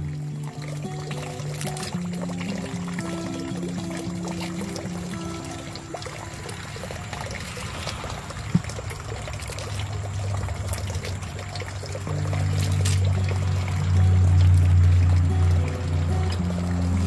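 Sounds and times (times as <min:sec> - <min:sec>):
soft background music: 0:00.0 - 0:17.0
water trickling and pouring: 0:00.0 - 0:17.0.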